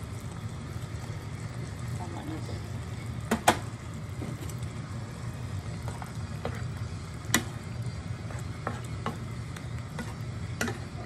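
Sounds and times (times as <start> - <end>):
food simmering in a pan: 0.0 - 11.0
steady low hum: 0.0 - 11.0.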